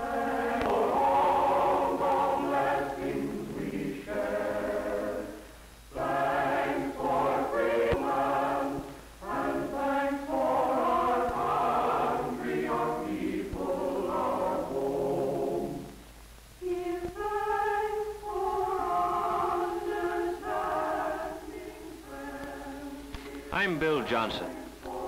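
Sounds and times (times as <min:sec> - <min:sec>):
choir singing: 0:00.0 - 0:16.0, 0:16.6 - 0:25.0.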